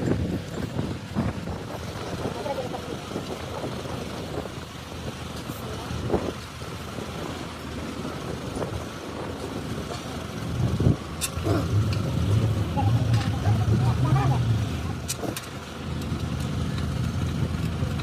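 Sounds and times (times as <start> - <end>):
motor vehicle noise: 0.0 - 18.0.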